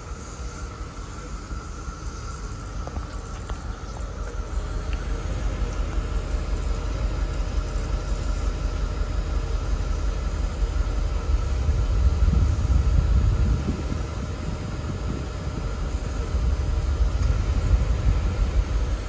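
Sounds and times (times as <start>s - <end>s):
car engine idling: 0.0s - 19.0s
cicadas buzzing: 0.0s - 19.0s.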